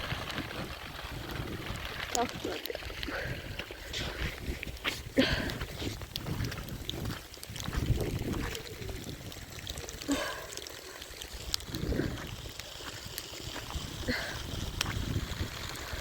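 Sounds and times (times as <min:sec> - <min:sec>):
wind on microphone: 0:00.0 - 0:10.4, 0:11.3 - 0:16.0
rain: 0:00.0 - 0:16.0
water running and trickling: 0:00.0 - 0:16.0.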